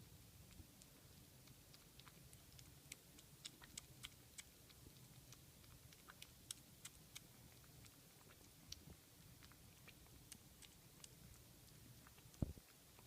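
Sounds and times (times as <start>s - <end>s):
kitten eating wet clicks: 0.0s - 13.0s.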